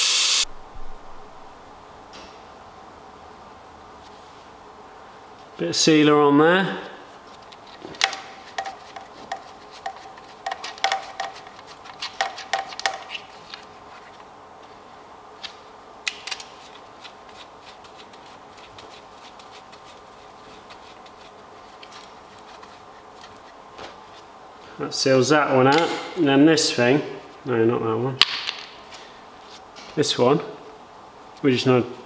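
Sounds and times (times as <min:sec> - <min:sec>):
steady low background hum: 0:00.4 - 0:32.0.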